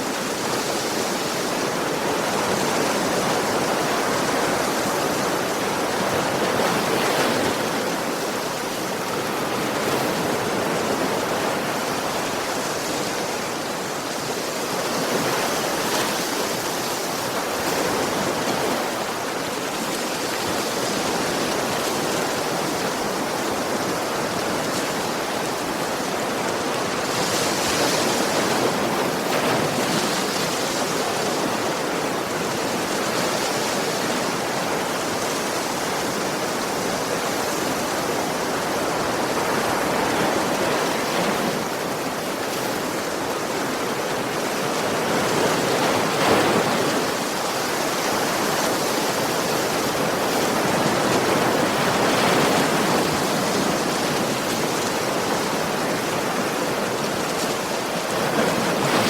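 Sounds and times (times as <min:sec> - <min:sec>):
sea waves surf: 0:00.0 - 0:59.0.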